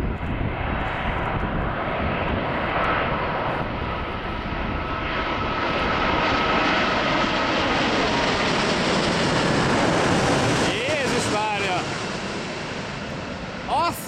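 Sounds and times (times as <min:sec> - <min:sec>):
jet engine roar with whine: 0:00.0 - 0:14.0.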